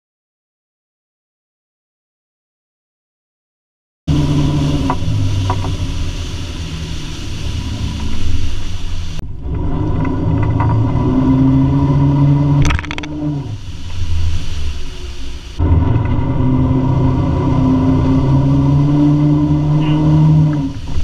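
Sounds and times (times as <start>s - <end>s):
boat engine running: 4.1s - 21.0s
water rushing: 4.1s - 21.0s.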